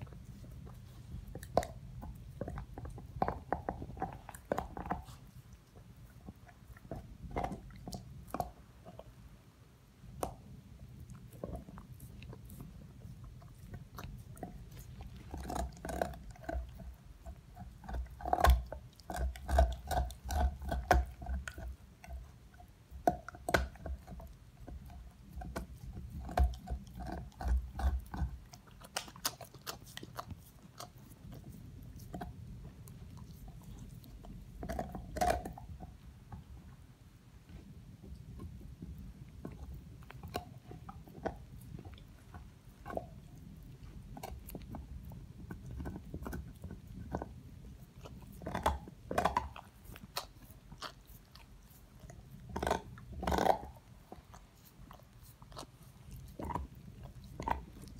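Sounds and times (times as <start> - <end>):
dog gnawing on a bone: 0.0 - 9.2, 10.0 - 36.8, 37.4 - 57.9.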